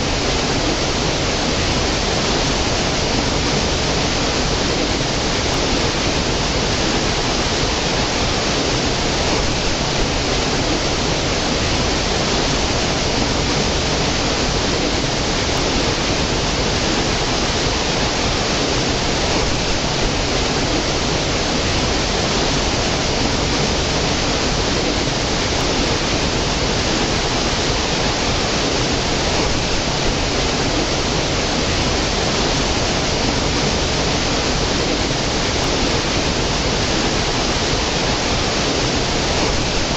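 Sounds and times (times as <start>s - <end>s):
stream cascading over rocks: 0.0s - 39.9s.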